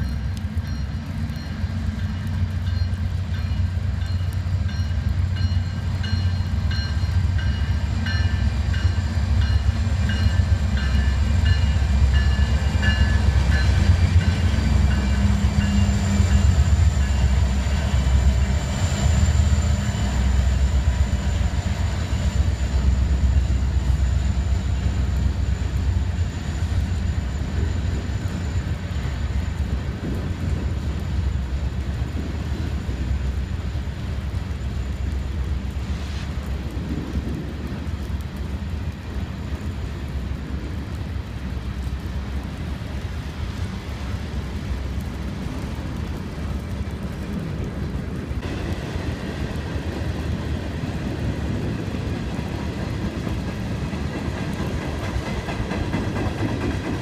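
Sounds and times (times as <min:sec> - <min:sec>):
diesel locomotives rumbling past: 0:00.0 - 0:57.0.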